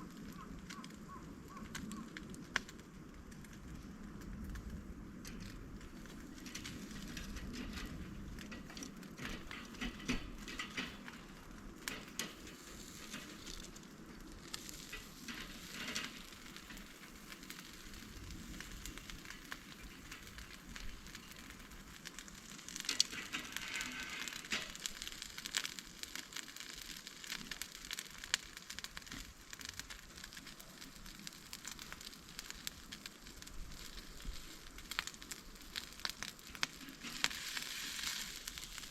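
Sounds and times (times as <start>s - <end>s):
fire hissing and sizzling: 0.0s - 38.9s
wood fire crackling and popping: 0.0s - 38.9s.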